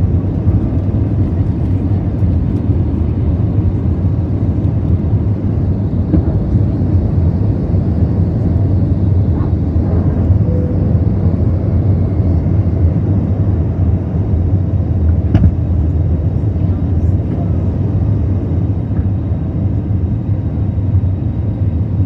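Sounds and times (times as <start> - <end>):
jet engines deep rumble: 0.0 - 22.0.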